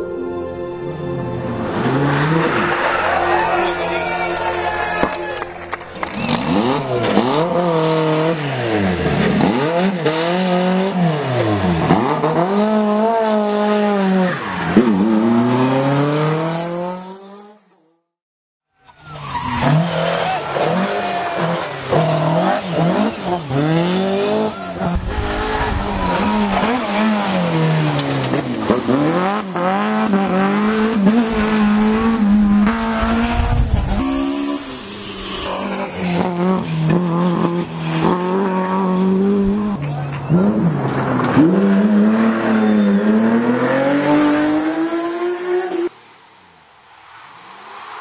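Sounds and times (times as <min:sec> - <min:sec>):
rally car engines revving: 0:01.4 - 0:17.8, 0:19.0 - 0:45.9.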